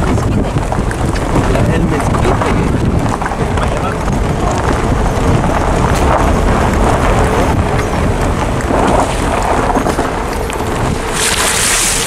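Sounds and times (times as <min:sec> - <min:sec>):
vehicle rumble on road: 0:00.0 - 0:12.0
wind buffeting microphone: 0:00.0 - 0:12.0.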